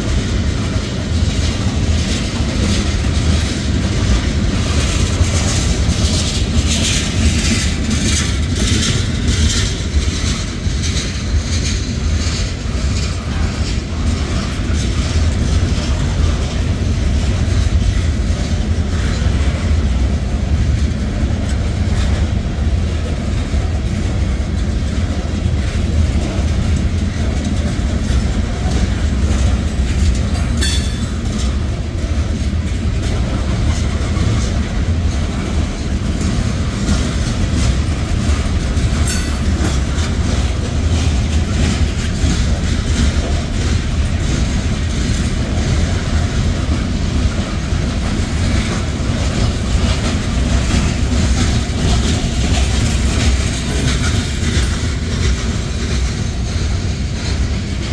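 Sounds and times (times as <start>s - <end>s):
freight train rumbling past: 0.0s - 57.9s
wheels clacking over rail joints: 0.0s - 57.9s.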